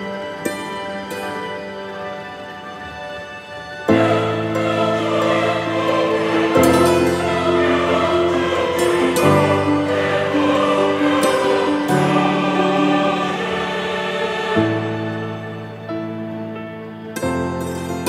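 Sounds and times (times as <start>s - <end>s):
choir-like voices holding chords: 0.0s - 18.0s.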